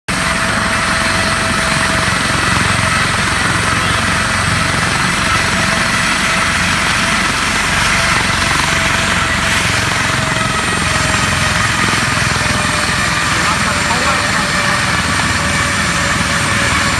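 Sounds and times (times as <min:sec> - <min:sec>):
airplane engine rushing: 0:00.1 - 0:16.9.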